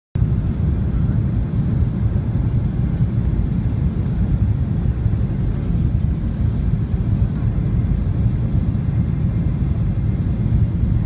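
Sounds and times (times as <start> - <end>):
airplane cabin engine rumble: 0.2 - 11.0.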